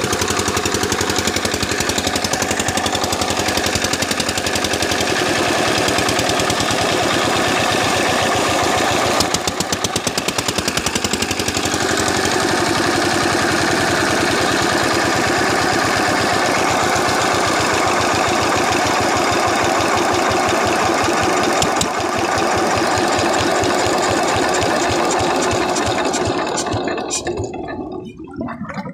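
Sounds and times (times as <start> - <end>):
diesel engine running a pump: 0.0 - 28.2.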